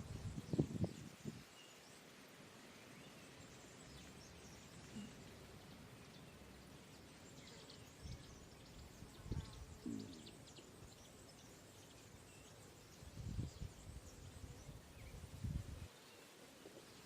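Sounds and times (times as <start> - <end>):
small bird chirps: 3.0 - 17.0.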